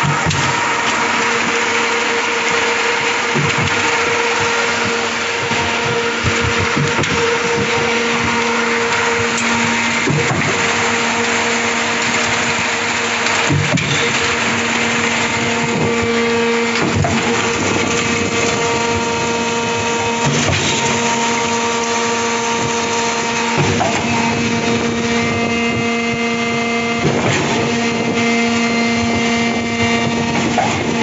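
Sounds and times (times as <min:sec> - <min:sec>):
concrete pump motor hum: 0:00.0 - 0:31.0
pump knocking: 0:00.0 - 0:31.0.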